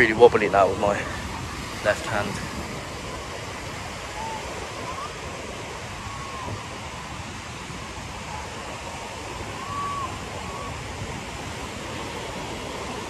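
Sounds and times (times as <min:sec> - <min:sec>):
surf breaking on beach: 0:00.0 - 0:13.0
wind rumbling on microphone: 0:00.0 - 0:13.0.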